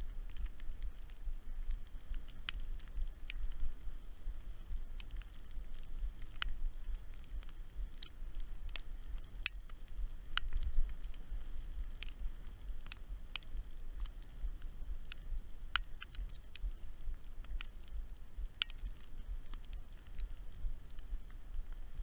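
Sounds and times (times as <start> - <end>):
raindrops ticking on camera: 0.0 - 22.0.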